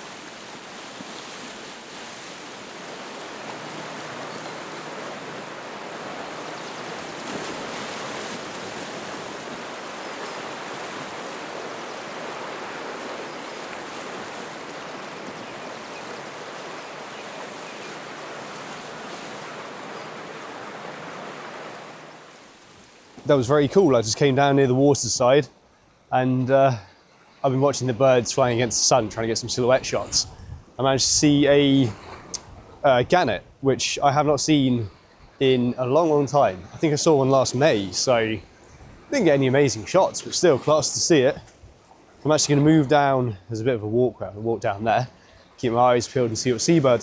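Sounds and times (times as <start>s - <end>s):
sea surf washing on shore: 0.0s - 25.4s, 27.5s - 47.0s.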